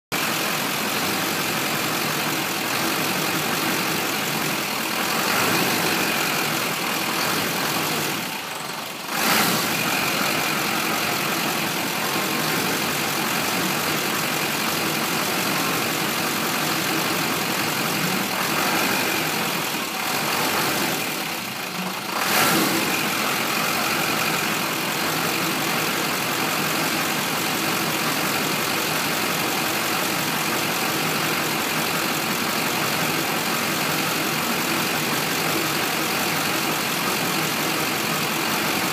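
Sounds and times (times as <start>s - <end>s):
diesel engine idling roughly: 0.1s - 38.9s.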